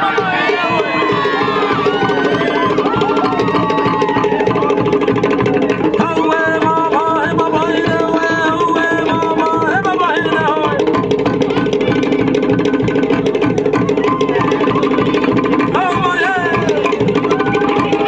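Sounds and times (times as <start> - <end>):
fast beating on log drums: 0.0 - 18.0.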